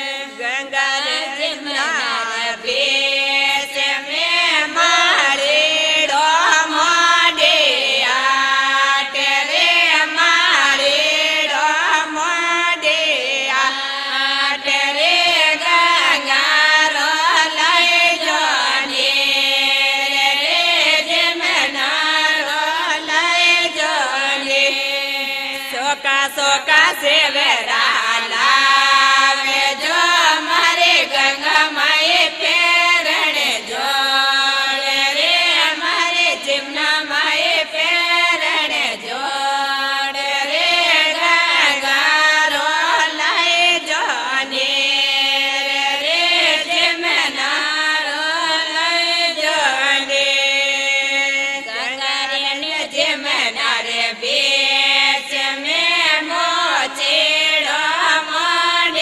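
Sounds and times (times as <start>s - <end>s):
women singing folk song: 0.0s - 59.0s.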